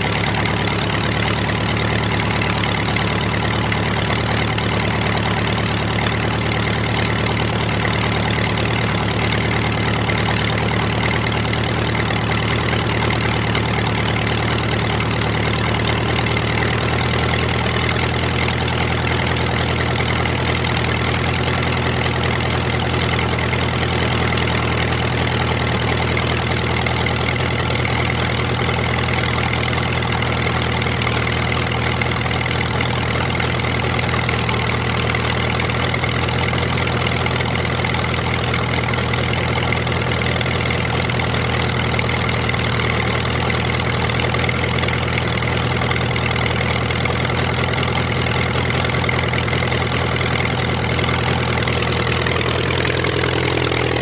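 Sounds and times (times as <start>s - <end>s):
aero engine idling: 0.0s - 54.0s.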